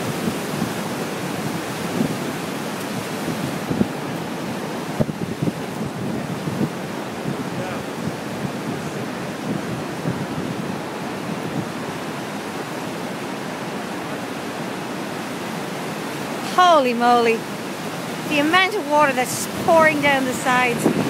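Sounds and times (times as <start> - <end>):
waterfall rushing: 0.0 - 21.0
wind buffeting microphone: 0.0 - 21.0.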